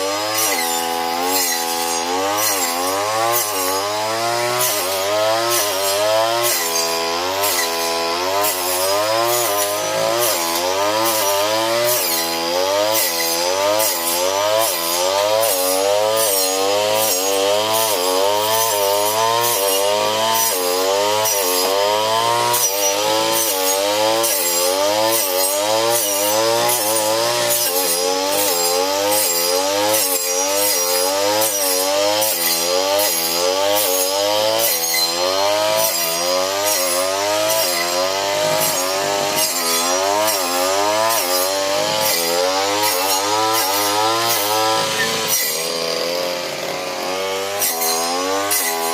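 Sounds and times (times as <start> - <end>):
blade chopping plants: 0.0 - 48.9
brush cutter engine: 0.0 - 48.9.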